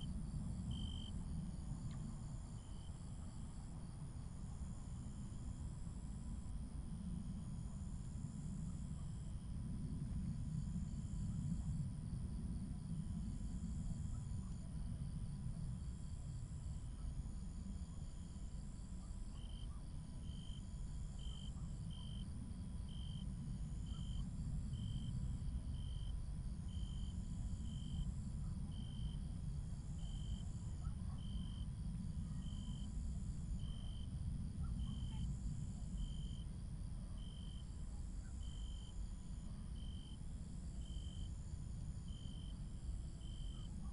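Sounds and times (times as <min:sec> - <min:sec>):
low steady rumble: 0:00.0 - 0:43.9.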